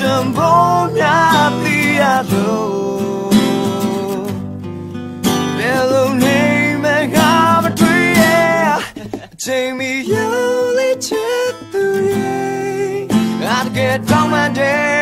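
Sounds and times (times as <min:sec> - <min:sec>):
man singing: 0:00.0 - 0:04.4, 0:05.4 - 0:15.0
strummed acoustic guitar: 0:00.0 - 0:15.0.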